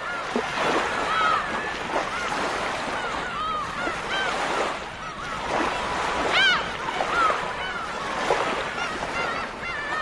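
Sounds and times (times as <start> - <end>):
surf washing: 0.0 - 10.0.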